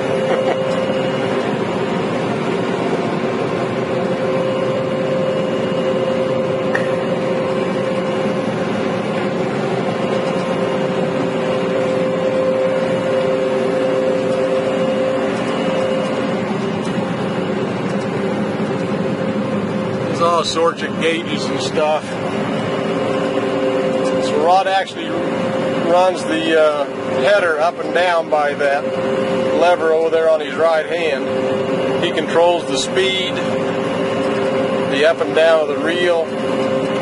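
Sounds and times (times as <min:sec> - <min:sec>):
combine harvester drone: 0:00.0 - 0:37.0
constant hum: 0:00.0 - 0:37.0.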